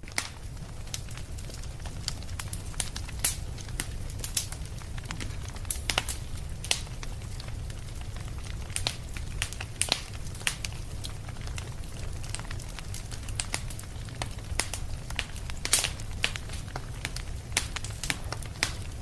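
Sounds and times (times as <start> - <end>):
fire popping: 0.0 - 19.0
low fire rumble: 0.0 - 19.0
wood fire crackling: 0.0 - 19.0.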